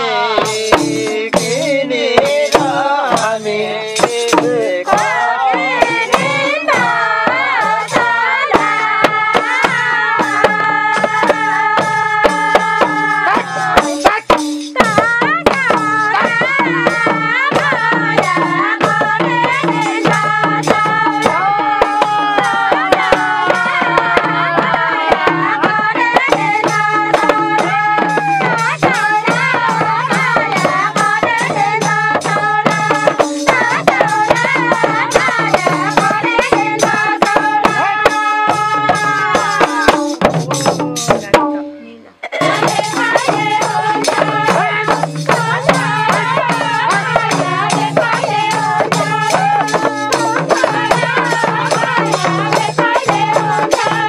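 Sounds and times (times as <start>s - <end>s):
group singing folk song: 0.0s - 41.4s, 42.3s - 54.0s
hand drum strokes: 7.9s - 54.0s.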